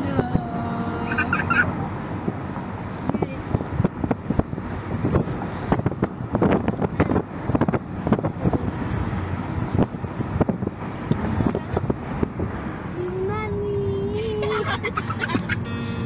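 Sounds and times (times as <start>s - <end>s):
car road noise from inside: 0.0s - 16.0s.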